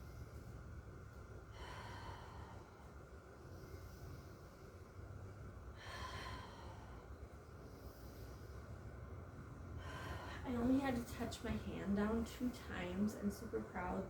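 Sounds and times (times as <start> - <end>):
woman breathing: 0.0 - 11.3
low steady rumble: 0.0 - 14.0.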